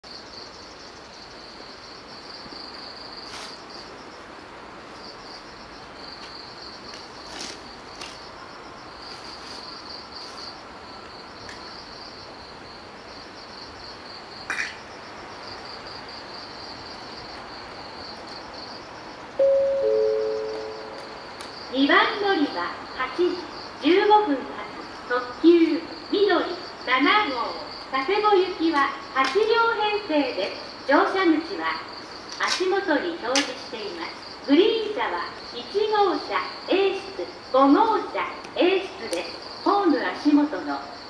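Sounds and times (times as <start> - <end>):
insects trilling: 0.0 - 41.0
outdoor background noise: 0.0 - 41.0.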